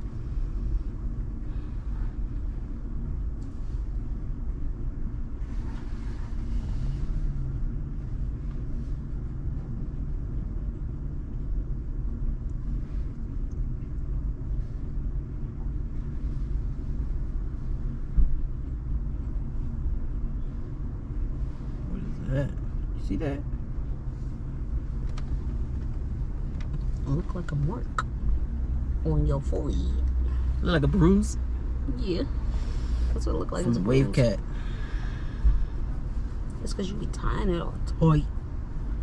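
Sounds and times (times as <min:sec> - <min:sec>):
car cabin rumble: 0:00.0 - 0:39.0.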